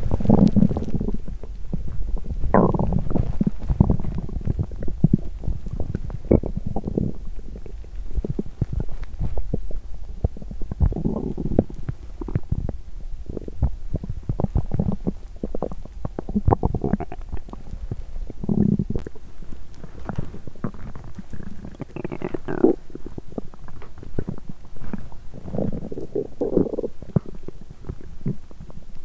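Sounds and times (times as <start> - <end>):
stomach growling and gurgling: 0.0 - 29.0.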